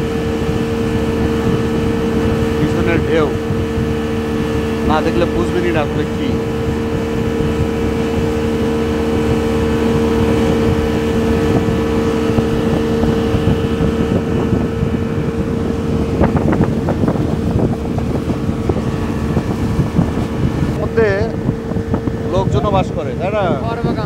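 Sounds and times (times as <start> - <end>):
speedboat engine droning: 0.0 - 24.0
water rushing along hull: 0.0 - 24.0
wind on microphone: 0.0 - 24.0.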